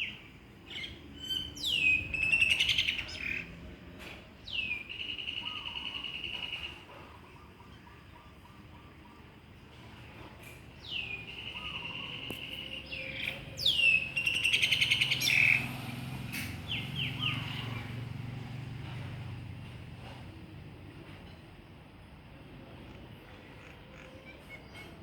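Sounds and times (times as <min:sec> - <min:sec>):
songbird singing: 0:00.0 - 0:19.2, 0:22.4 - 0:25.0.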